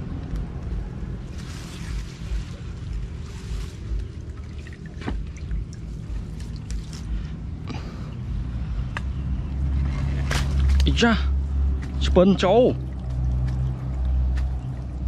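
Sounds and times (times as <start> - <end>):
water trickling and dripping: 0.1 - 7.4, 9.6 - 15.0.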